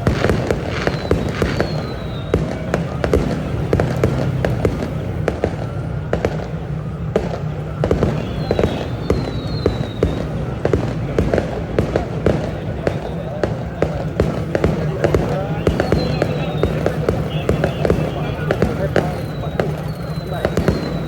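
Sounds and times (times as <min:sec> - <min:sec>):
firework whistles: 0:00.0 - 0:21.0
fireworks bangs and crackles: 0:00.0 - 0:21.0.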